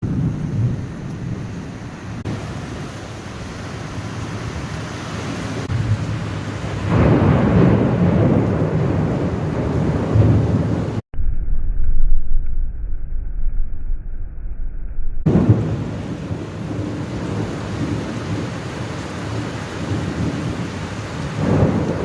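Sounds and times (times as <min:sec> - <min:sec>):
rain falling: 0:00.0 - 0:11.0, 0:15.3 - 0:22.0
thunder rumbling: 0:00.0 - 0:22.0.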